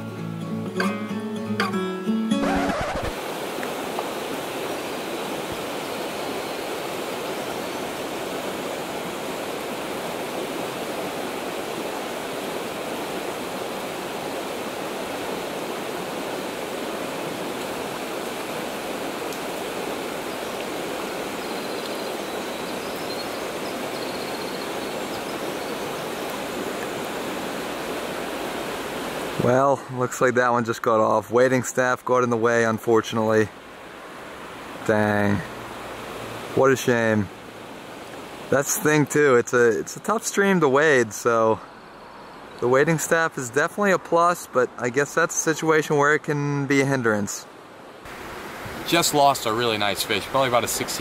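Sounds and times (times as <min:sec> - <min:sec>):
stream rushing over rocks: 0:02.3 - 0:41.8, 0:42.4 - 0:51.0.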